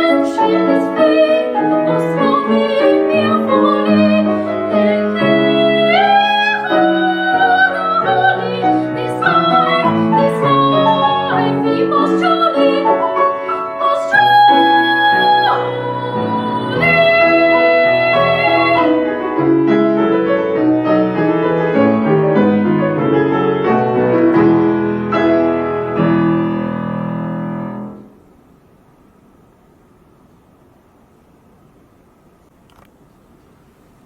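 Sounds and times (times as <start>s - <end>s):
piano chords: 0.0s - 28.6s.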